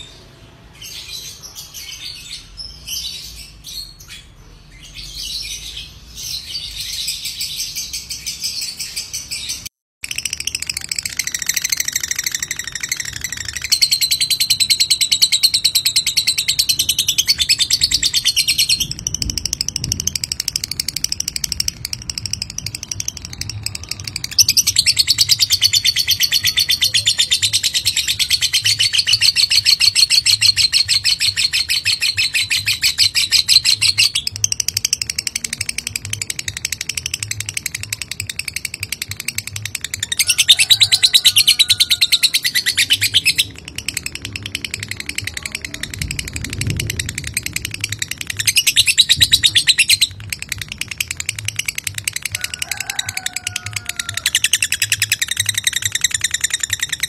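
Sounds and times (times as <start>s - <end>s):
bird chattering trill: 10.0s - 57.0s.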